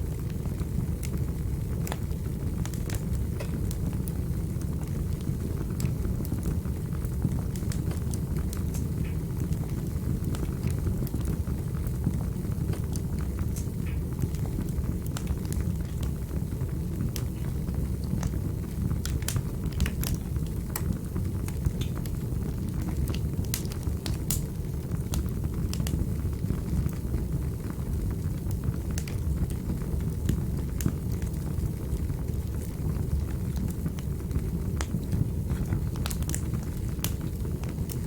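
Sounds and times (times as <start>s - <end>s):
fire crackling in fireplace: 0.0s - 38.0s.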